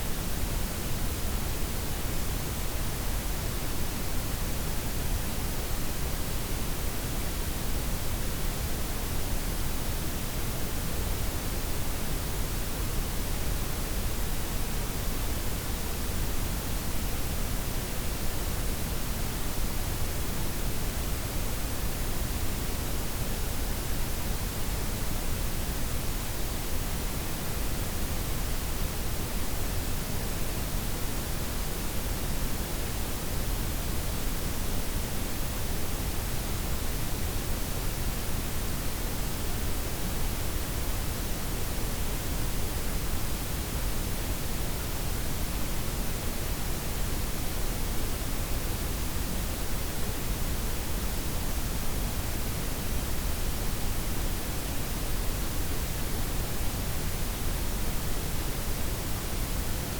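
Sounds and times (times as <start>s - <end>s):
steady noise hiss: 0.0s - 59.9s.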